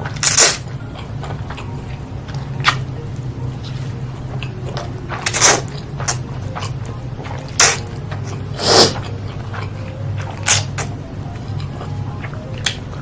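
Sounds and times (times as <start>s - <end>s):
chewing with wet mouth smacks: 0.0s - 13.0s
steady low hum: 0.0s - 13.0s.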